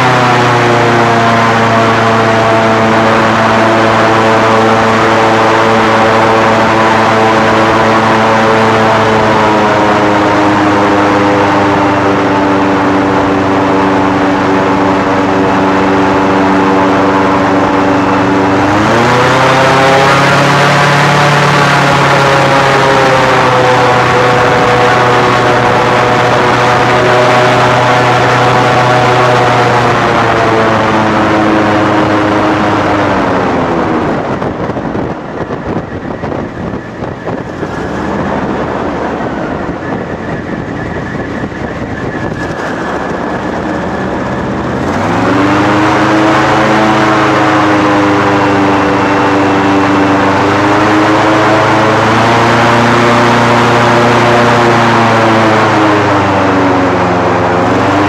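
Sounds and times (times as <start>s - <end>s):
airboat engine and propeller: 0.0s - 58.0s.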